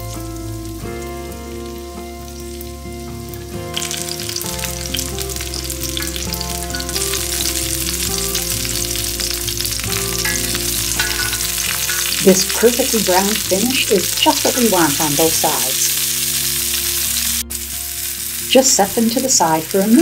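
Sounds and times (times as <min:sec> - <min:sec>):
zucchini sizzling in oil: 0:00.0 - 0:20.0.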